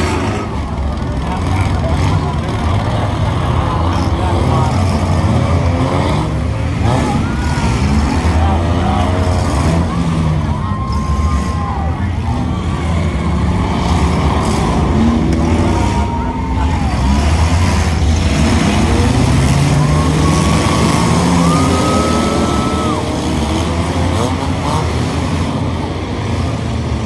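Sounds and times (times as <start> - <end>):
racing car engines revving: 0.0 - 27.0.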